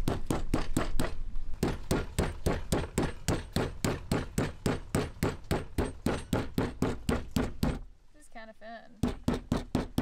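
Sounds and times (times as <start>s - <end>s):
metal mallet pounding meat: 0.0s - 7.8s, 9.0s - 10.0s.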